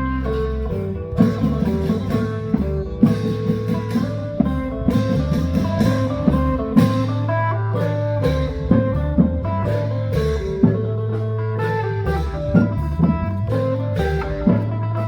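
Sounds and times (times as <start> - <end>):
drum strikes: 0.0 - 15.0
plucked string lead: 0.0 - 15.0
steady bass: 0.0 - 15.0.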